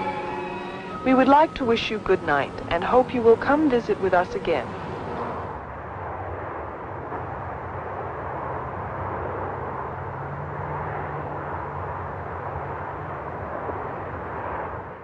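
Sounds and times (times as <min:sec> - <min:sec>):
jet airliner flying overhead: 0:00.0 - 0:15.0
low hum: 0:00.0 - 0:15.0.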